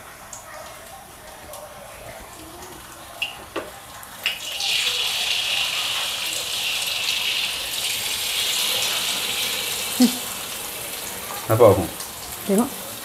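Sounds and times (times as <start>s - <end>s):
eggs sizzling in hot oil: 2.2s - 13.0s.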